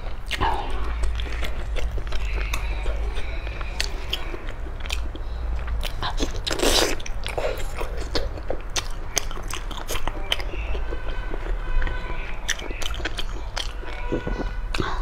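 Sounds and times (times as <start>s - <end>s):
chewing and biting: 0.0s - 15.0s
low steady hum: 0.0s - 15.0s.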